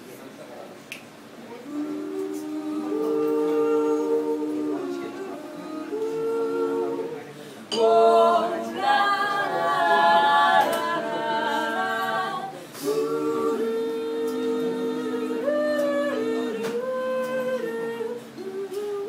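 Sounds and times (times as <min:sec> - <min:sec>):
a cappella group singing: 0:01.6 - 0:19.0.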